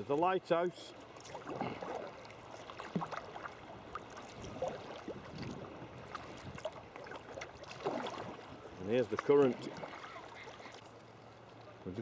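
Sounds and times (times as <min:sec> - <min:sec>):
kayak paddle splashing water: 0:00.9 - 0:11.8.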